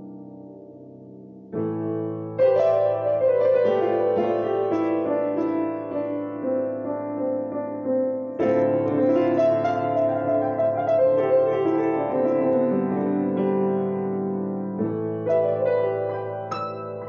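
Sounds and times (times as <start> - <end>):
solo grand piano: 0.0 - 17.0.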